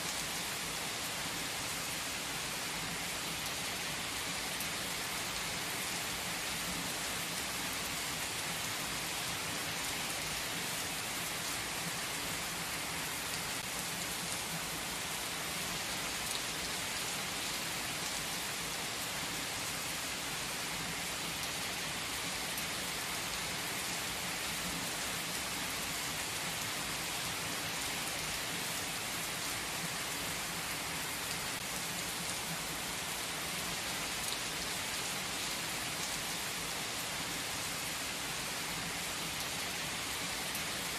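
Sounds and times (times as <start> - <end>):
heavy rain on pavement: 0.0 - 40.9.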